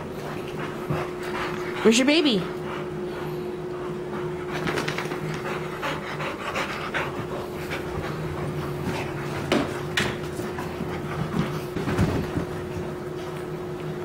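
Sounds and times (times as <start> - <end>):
puppy panting: 0.0 - 12.0
steady low hum: 0.0 - 14.0.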